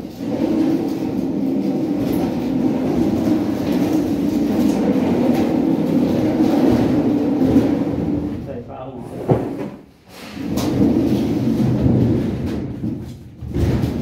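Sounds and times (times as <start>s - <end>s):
wardrobe scraping across floor: 0.0s - 8.4s, 9.0s - 14.0s.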